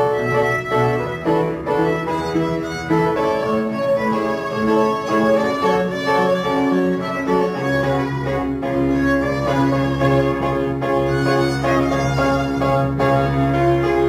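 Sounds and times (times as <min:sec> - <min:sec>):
bowed strings melody: 0:00.0 - 0:14.0
piano: 0:00.0 - 0:14.0.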